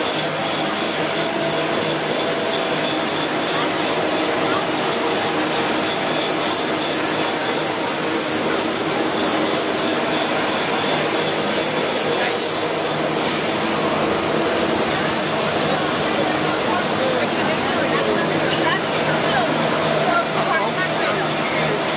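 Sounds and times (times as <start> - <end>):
printing machine running: 0.0 - 21.9.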